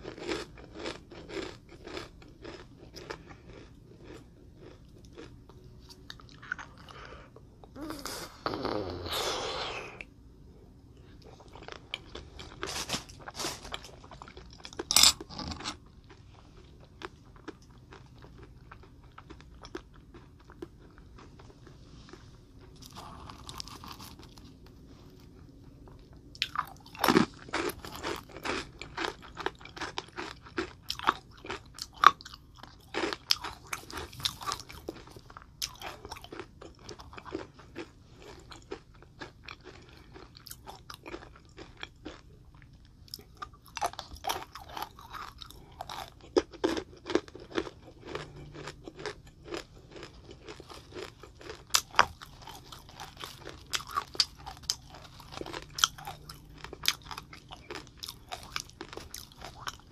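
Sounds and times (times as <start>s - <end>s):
hard candy crunching: 0.0s - 7.8s, 11.2s - 59.9s.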